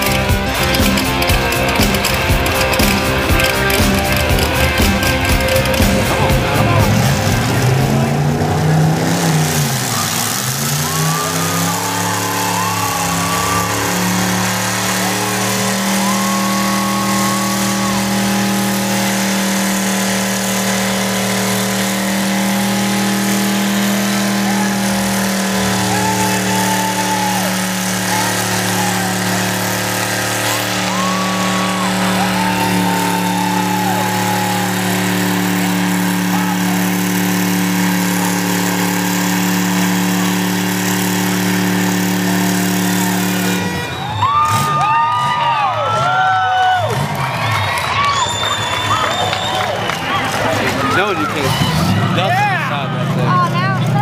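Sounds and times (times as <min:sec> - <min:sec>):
engine revving high: 0:00.0 - 0:54.0.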